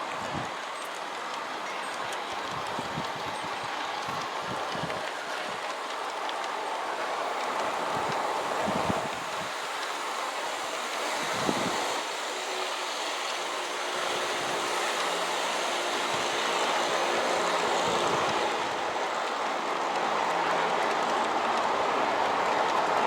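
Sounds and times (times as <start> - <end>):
model train wheels rolling: 0.0 - 23.0.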